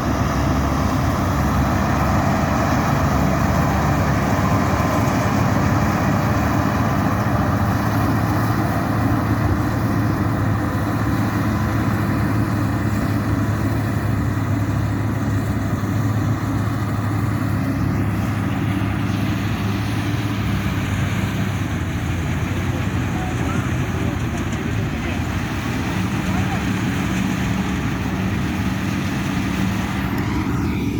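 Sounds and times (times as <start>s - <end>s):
diesel engine droning: 0.0s - 30.9s.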